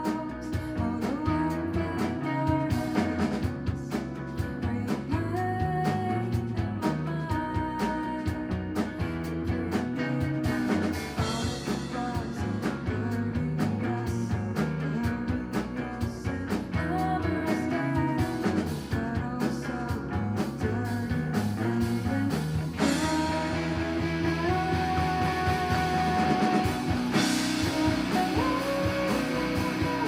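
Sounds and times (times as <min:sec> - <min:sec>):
live rock band playing: 0:00.0 - 0:30.0.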